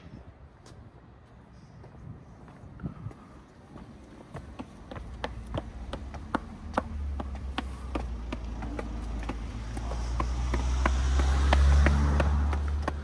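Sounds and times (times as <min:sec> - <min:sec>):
vehicle engine rumble: 0:00.0 - 0:13.0
footsteps on hard path: 0:00.6 - 0:13.0.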